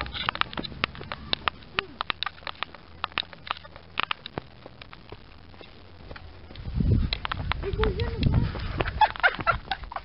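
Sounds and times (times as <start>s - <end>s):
footsteps on pavement: 0.0s - 10.0s.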